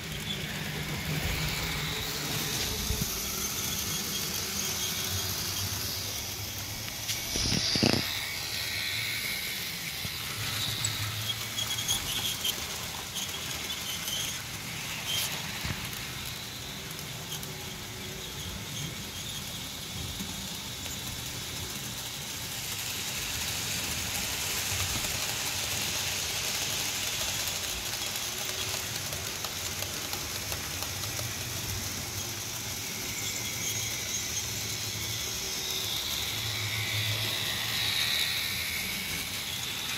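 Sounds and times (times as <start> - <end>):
model trains whirring on rails: 0.0 - 39.9.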